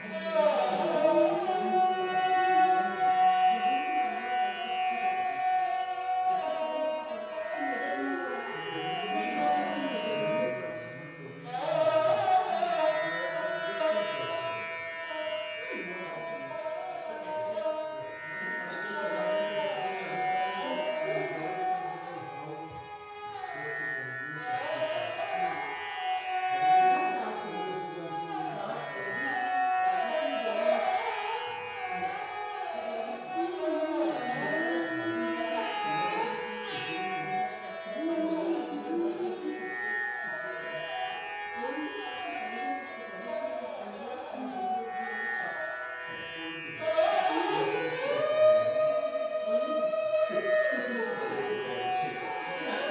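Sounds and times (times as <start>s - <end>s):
string melody with gliding notes: 0.0s - 52.9s.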